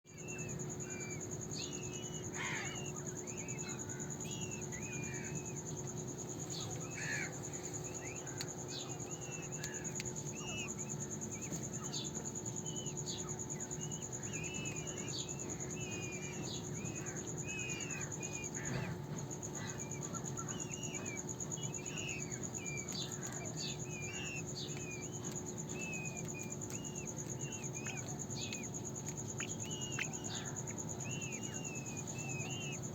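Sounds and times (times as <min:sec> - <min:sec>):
peachicks peeping: 0:00.1 - 0:32.9.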